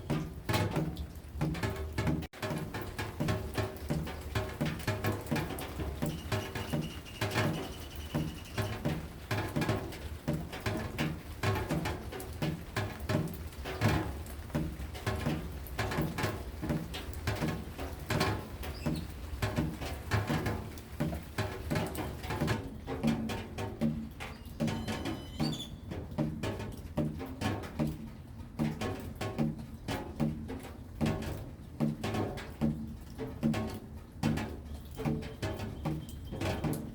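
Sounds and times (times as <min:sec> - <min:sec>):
rain drops tapping: 0:00.0 - 0:36.9.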